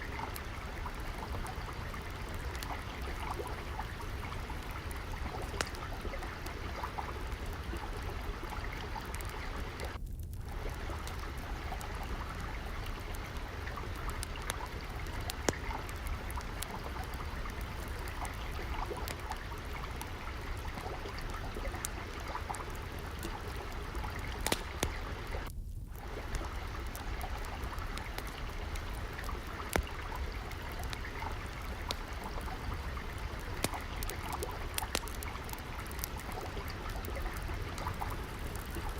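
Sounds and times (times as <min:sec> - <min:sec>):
trickling water: 0:00.0 - 0:38.9
wood fire crackling: 0:00.0 - 0:38.9.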